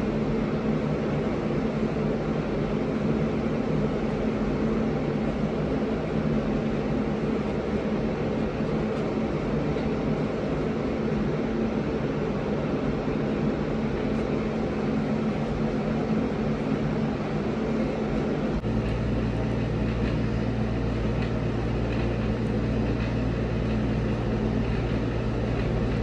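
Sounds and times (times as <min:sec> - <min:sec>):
air conditioner air rush: 0:00.0 - 0:26.0
low mechanical hum: 0:00.0 - 0:26.0.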